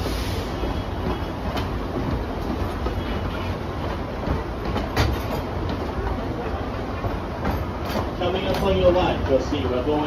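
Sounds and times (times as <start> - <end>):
train coaches rolling on track: 0.0 - 10.0.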